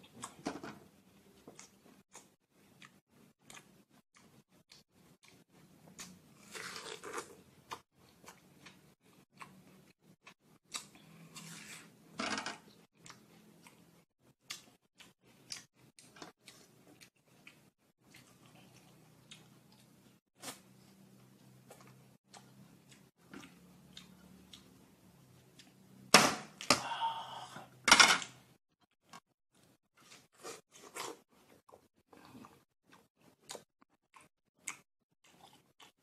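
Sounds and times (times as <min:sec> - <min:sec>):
person chewing watermelon: 0:01.5 - 0:11.4, 0:12.9 - 0:25.8, 0:29.1 - 0:36.0.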